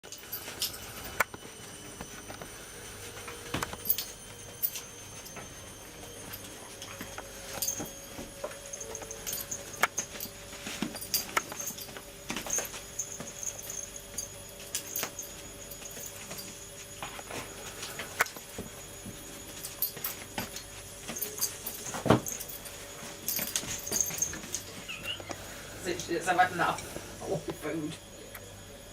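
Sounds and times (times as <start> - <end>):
paws scrabbling and tapping: 0.4 - 25.4.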